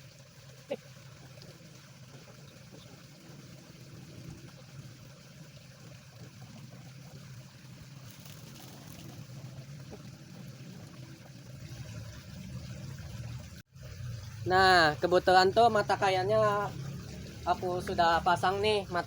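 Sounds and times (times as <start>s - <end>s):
small stream trickling: 0.0s - 19.0s.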